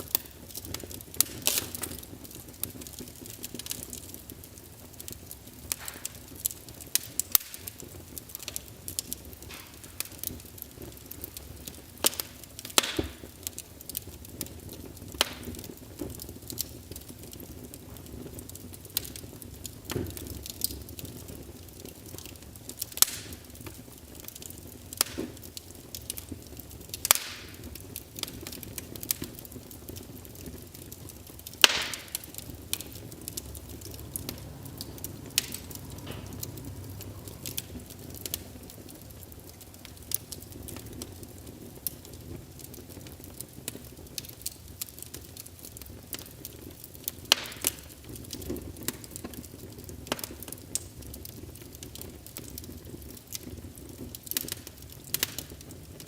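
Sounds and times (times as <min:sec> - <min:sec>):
fire crackling and popping: 0:00.0 - 0:56.0
rustle of flames: 0:00.0 - 0:56.0.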